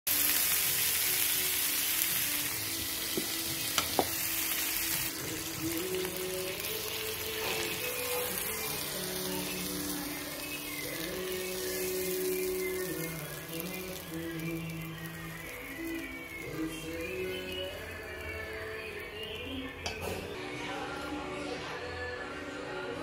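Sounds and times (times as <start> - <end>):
water sizzling on hot pan: 0.1 - 20.1
batter sizzling: 0.1 - 20.3.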